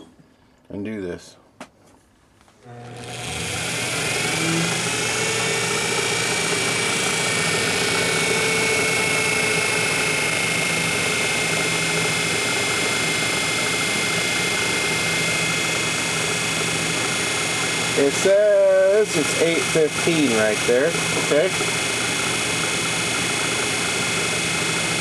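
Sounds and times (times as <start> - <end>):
metal lathe motor whining: 2.6 - 25.0.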